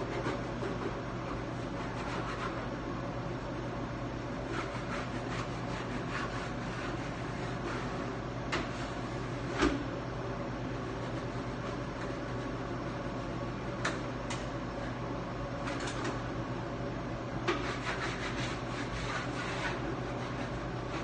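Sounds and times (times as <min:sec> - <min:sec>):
kitchen ventilation hum: 0:00.0 - 0:21.0.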